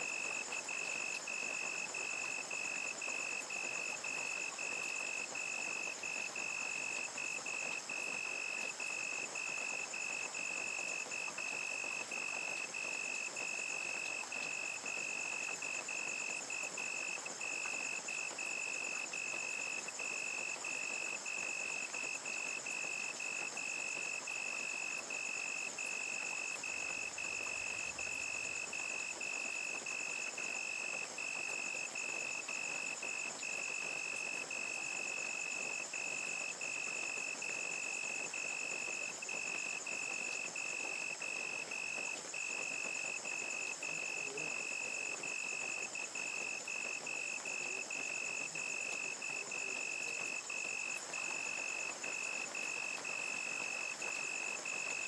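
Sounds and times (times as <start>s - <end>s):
continuous insect trill: 0.0s - 55.0s
crickets chirping: 0.0s - 55.0s
rain falling: 0.0s - 55.0s.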